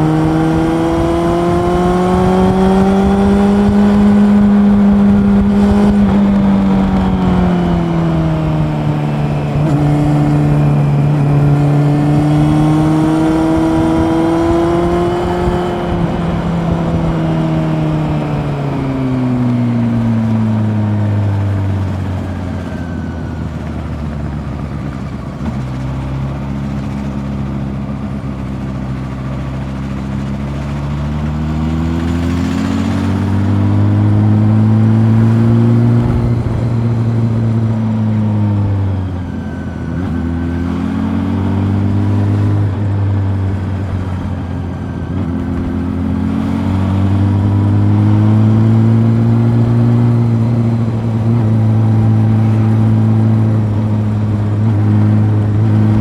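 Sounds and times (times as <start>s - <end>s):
motorcycle engine revving: 0.0s - 56.0s
road and wind noise: 0.0s - 56.0s.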